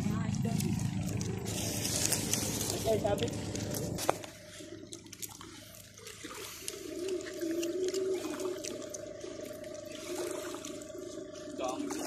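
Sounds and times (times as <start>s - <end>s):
faint steady hum: 0.0s - 12.0s
lake water splashing at shore: 0.0s - 12.0s.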